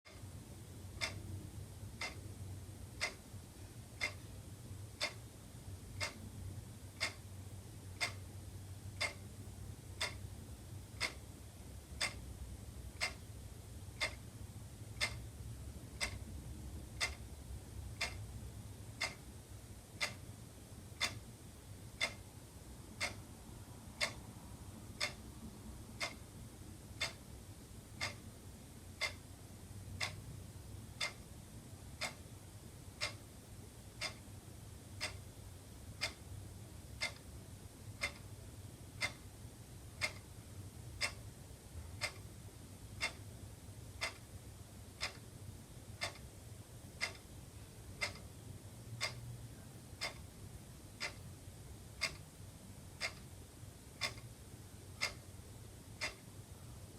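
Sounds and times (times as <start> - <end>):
low steady hum: 0.1 - 56.9
wall clock ticking: 0.1 - 56.9.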